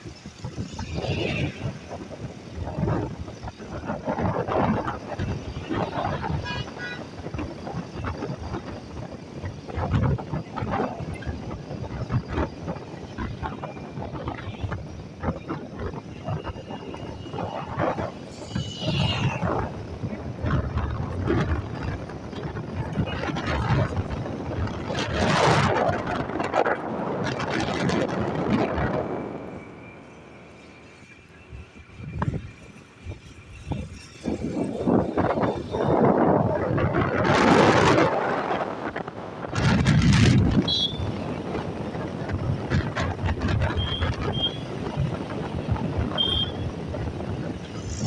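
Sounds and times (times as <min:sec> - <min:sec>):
vehicle road noise: 0:00.0 - 0:48.0
wind buffeting microphone: 0:00.0 - 0:48.0.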